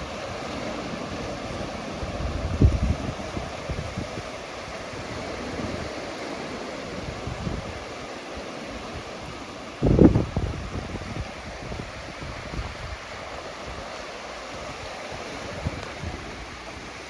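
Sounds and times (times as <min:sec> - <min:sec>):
ocean surf washing onto beach: 0:00.0 - 0:17.0
wind blowing over microphone: 0:00.0 - 0:17.0.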